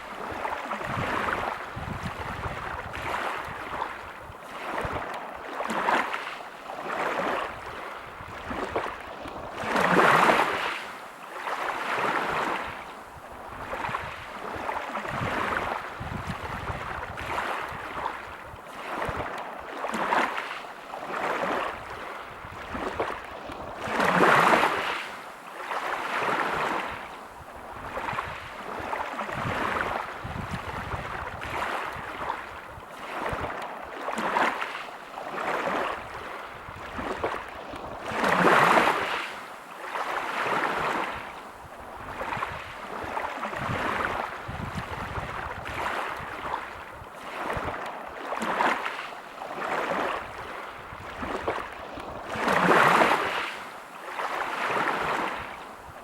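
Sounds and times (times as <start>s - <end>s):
waves breaking on pebble beach: 0.0s - 12.8s, 13.6s - 27.0s, 27.8s - 41.3s, 42.1s - 56.0s.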